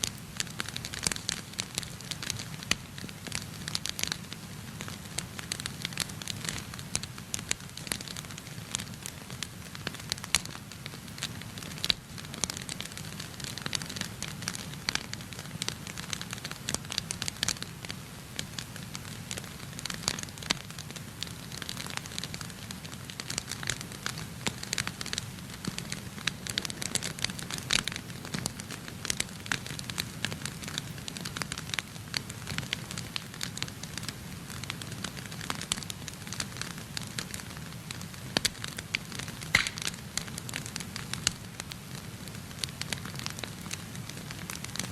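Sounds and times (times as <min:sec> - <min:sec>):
fire crackling and popping: 0:00.0 - 0:44.9.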